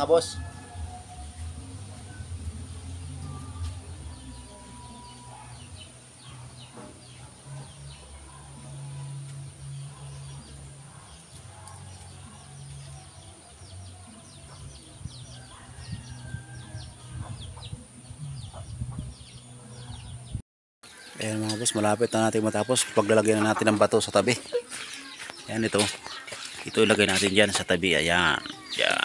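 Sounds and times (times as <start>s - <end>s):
small birds chirping: 1.4s - 29.0s.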